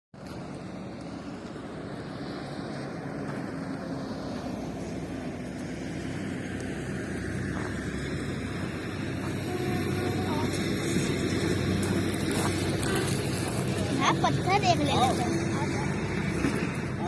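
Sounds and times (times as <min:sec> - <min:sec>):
low mechanical drone: 0:00.2 - 0:17.0.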